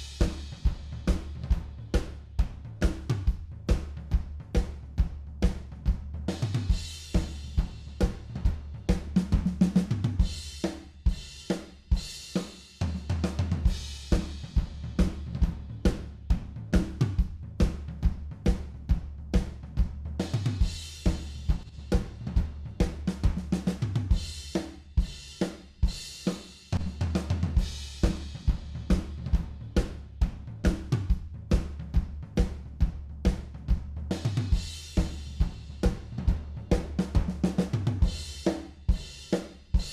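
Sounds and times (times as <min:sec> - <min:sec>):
drum kit playing fast groove: 0:00.0 - 0:39.9.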